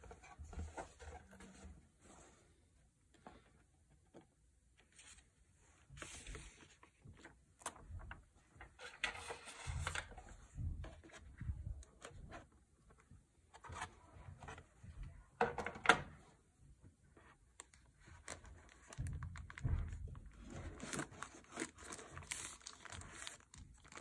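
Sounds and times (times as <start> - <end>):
plastic and cardboard rustling: 0.0 - 14.9, 17.1 - 24.0.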